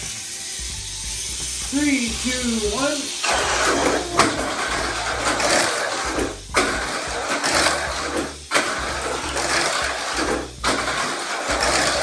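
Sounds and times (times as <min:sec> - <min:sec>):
toy car motor whine: 0:00.0 - 0:12.0
wheels rattling on plastic track: 0:00.0 - 0:12.0.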